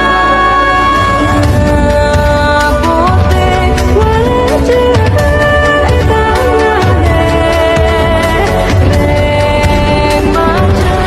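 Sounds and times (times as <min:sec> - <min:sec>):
pulsing low beat: 0:00.0 - 0:11.0
sustained melody line: 0:00.0 - 0:11.0.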